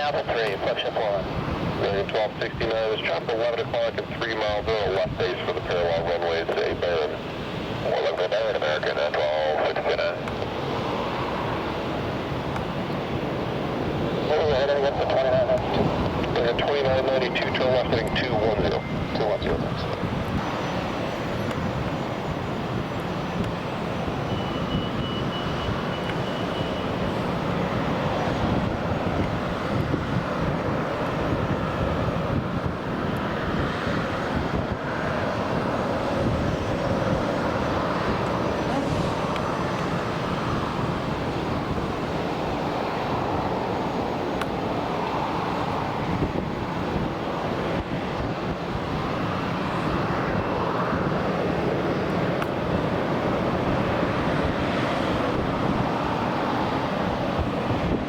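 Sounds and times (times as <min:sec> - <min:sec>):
jet engines wavering drone: 0:00.0 - 0:58.0.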